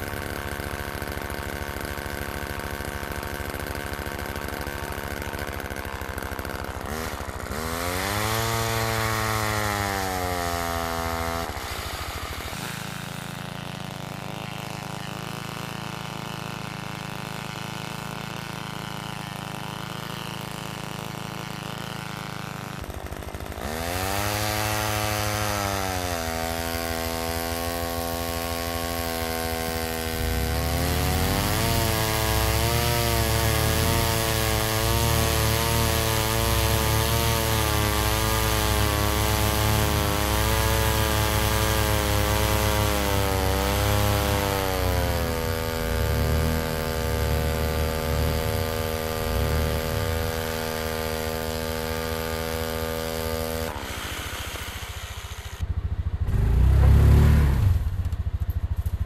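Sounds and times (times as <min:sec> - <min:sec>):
chainsaw engine running: 0:00.0 - 0:59.0.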